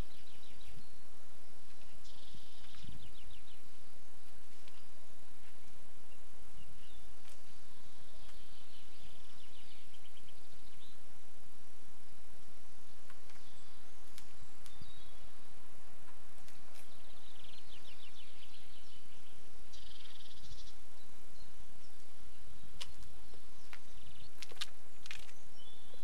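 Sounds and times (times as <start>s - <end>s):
insect chirping in trills: 0.0s - 26.0s
steady outdoor hiss: 0.0s - 26.0s.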